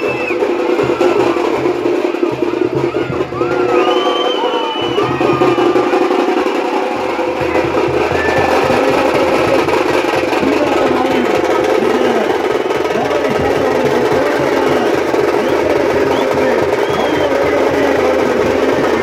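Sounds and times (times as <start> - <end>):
fast hand drumming: 0.0 - 19.0.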